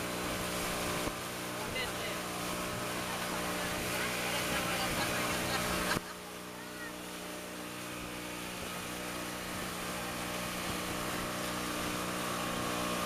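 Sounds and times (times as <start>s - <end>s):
motorboat engine running: 0.0s - 13.0s
water rushing past hull: 0.0s - 13.0s
wind: 0.0s - 13.0s.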